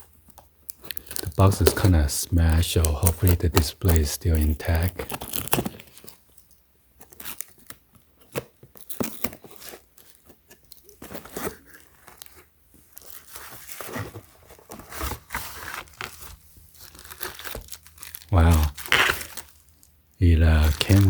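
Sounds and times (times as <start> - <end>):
cardboard tearing and crinkling: 0.8 - 6.2, 7.0 - 21.0.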